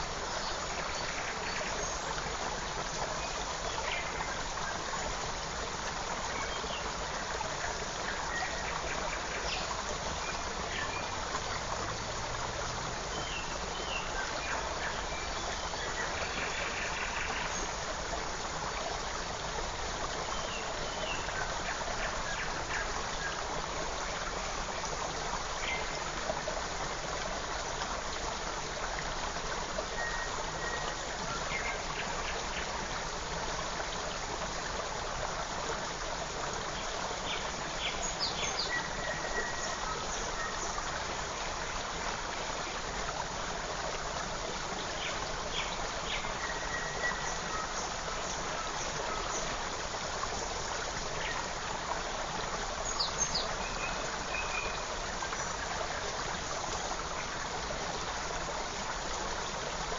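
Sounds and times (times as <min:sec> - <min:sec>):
creek running over stones: 0:00.0 - 0:59.9.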